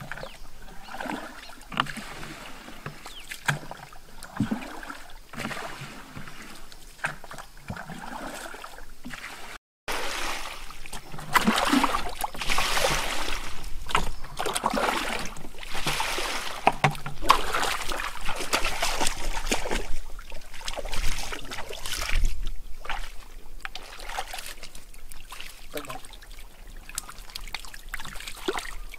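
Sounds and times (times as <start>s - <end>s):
fish thrashing in water: 0.0s - 28.9s
water splashing in a pond: 0.0s - 28.9s.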